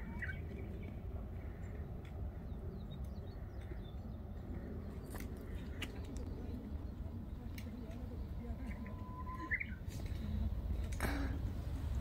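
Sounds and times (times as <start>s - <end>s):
faint songbird chirps: 0.0s - 10.4s
steady low rumble: 0.0s - 12.0s.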